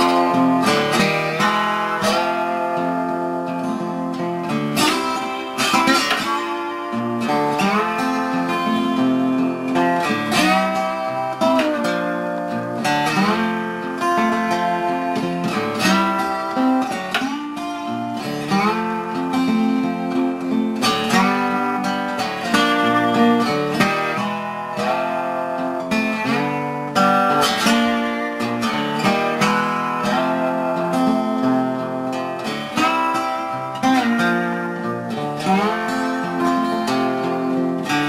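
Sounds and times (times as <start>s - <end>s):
slide resonator guitar: 0.0s - 38.0s.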